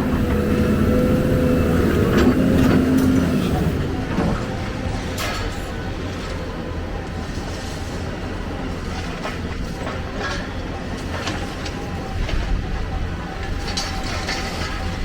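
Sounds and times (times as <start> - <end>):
excavator diesel engine running: 0.0 - 12.1.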